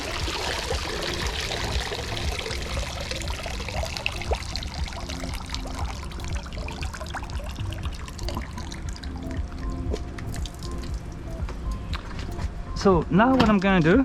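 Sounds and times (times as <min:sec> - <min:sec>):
water pouring and trickling: 0:00.0 - 0:12.4.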